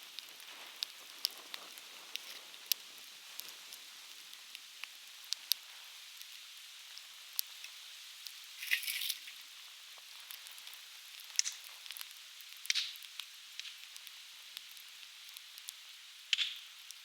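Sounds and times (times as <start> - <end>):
campfire crackling and popping: 0.0 - 17.0
fire hiss: 0.0 - 17.0.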